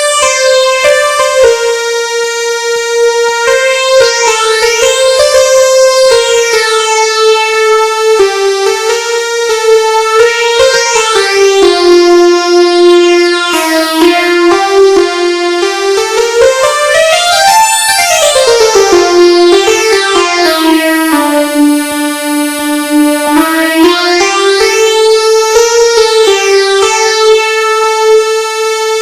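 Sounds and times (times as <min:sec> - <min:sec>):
electronic keyboard ringtone melody: 0:00.0 - 0:29.0.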